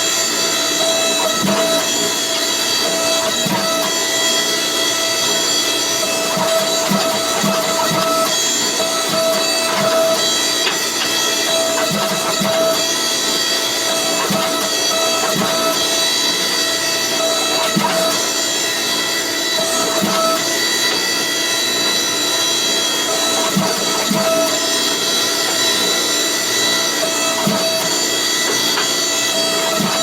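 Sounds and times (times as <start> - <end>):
machine humming with high tones: 0.0 - 30.0.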